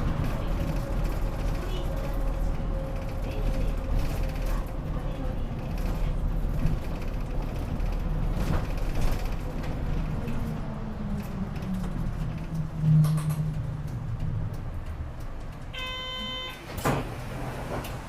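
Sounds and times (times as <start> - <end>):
bus engine slowing: 0.0 - 15.8, 16.5 - 18.0
bus body creaking and rattling: 0.0 - 18.0.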